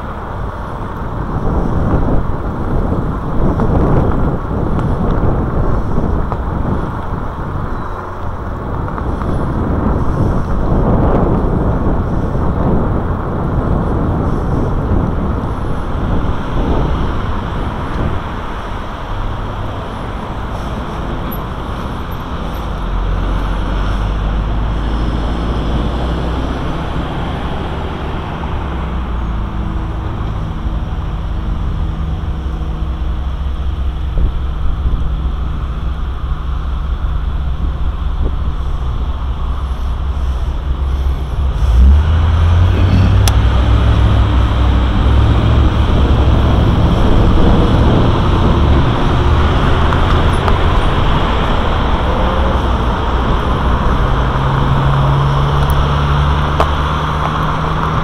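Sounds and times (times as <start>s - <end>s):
low hum of car engines: 0.0s - 58.0s
road traffic passing: 0.0s - 58.0s
wind rushing over microphone: 0.0s - 58.0s.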